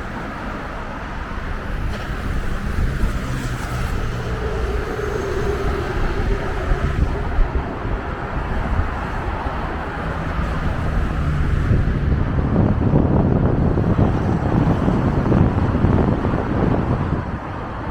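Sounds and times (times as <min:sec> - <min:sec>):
diesel bus engine: 0:00.0 - 0:17.9
road noise: 0:00.0 - 0:17.9
wind buffeting microphone: 0:00.0 - 0:17.9.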